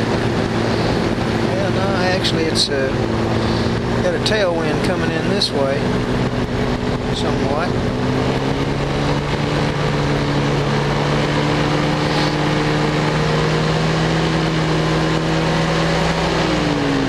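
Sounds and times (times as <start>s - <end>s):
aircraft engine running: 0.0s - 17.0s
wind rush: 0.0s - 17.0s.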